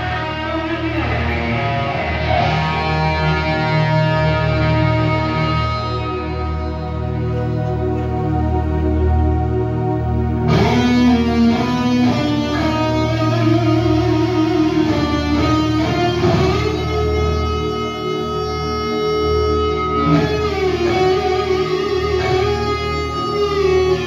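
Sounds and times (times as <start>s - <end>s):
live rock band playing: 0.0s - 9.0s, 10.2s - 24.0s
electric guitars sliding notes: 0.0s - 24.0s.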